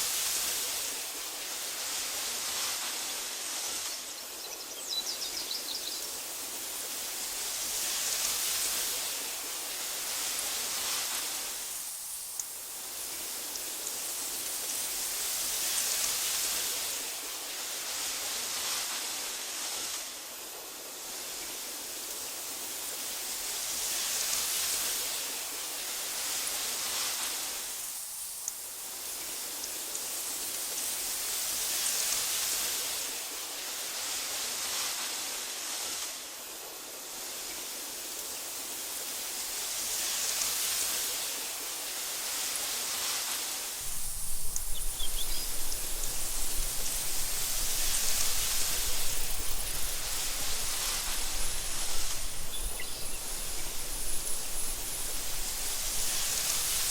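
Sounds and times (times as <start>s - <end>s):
wind through grass: 0.0s - 56.9s.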